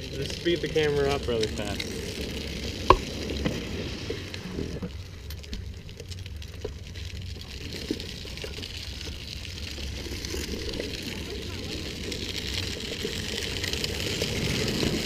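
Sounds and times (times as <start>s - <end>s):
plastic wheels rolling on asphalt: 0.0s - 15.0s.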